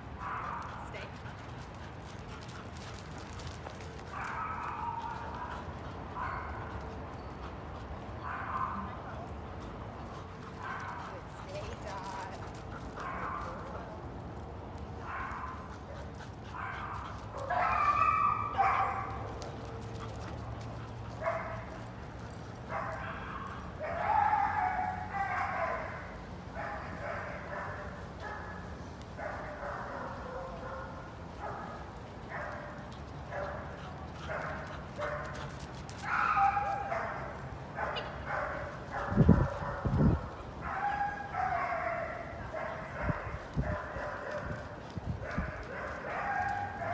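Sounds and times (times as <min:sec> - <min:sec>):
dogs barking and yelping: 0:01.9 - 0:11.7, 0:12.5 - 0:14.0, 0:15.0 - 0:46.9.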